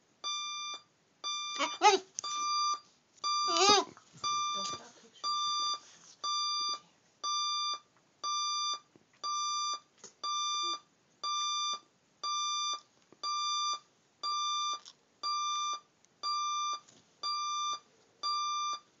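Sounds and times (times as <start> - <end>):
alarm clock beeping: 0.2 - 18.9.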